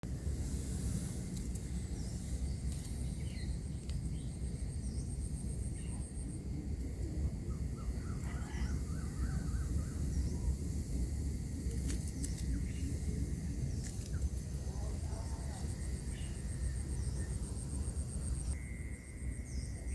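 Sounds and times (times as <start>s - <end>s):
steady low rumble: 0.0s - 19.9s
birds chirping: 0.1s - 19.9s.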